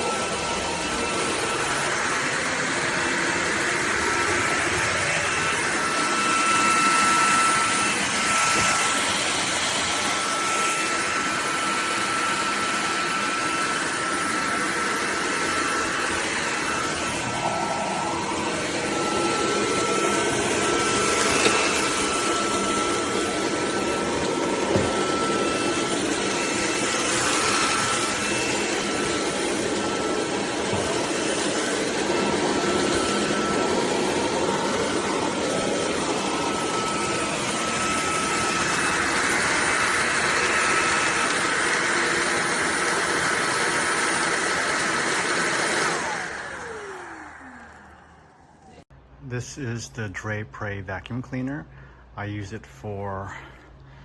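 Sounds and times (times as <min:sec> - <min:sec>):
stick vacuum running: 0:00.0 - 0:48.8.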